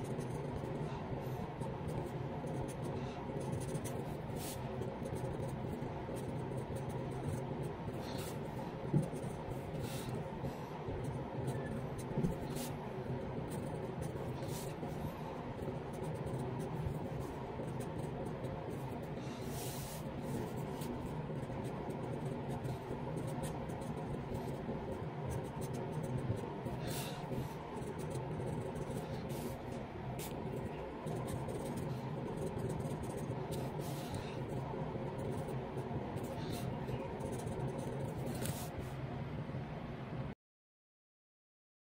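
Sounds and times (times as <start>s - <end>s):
pen nib scratching on paper: 0.0s - 38.9s.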